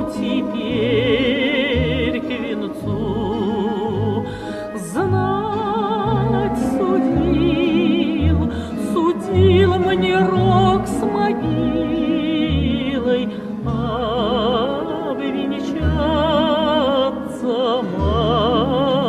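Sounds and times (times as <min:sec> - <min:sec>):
instrumental accompaniment: 0:00.0 - 0:19.0
operatic singing with vibrato: 0:00.0 - 0:19.0.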